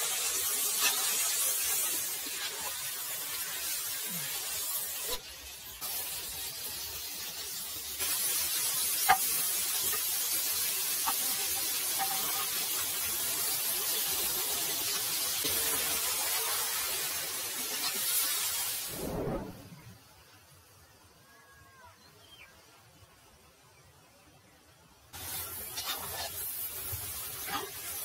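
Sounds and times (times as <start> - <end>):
food sizzling in hot oil: 0.0 - 19.6, 25.1 - 28.0.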